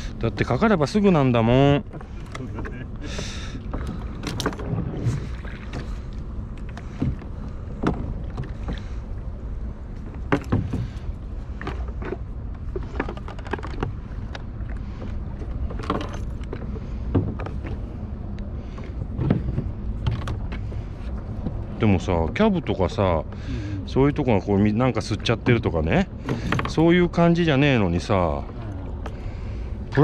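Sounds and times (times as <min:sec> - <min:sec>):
water around boat: 0:00.0 - 0:30.0
wind: 0:00.0 - 0:30.0.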